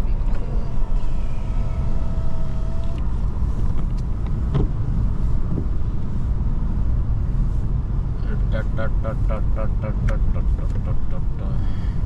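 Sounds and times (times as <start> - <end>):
road and engine rumble inside car: 0.0 - 12.0.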